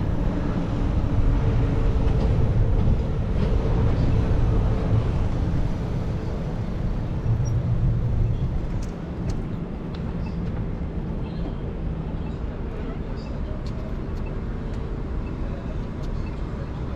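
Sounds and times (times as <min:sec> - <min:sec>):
street traffic rumble: 0:00.0 - 0:16.9.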